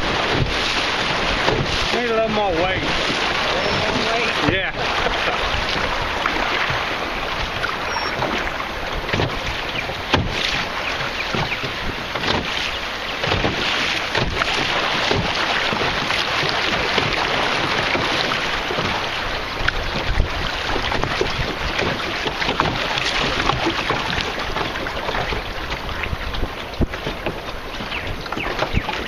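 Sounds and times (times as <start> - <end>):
small water splashes: 0.0 - 29.0
water rushing in river rapid: 0.0 - 29.0
wind on microphone: 0.0 - 29.0.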